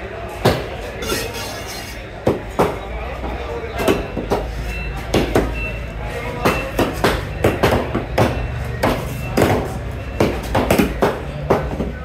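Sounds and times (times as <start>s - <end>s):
low market background: 0.0s - 12.0s.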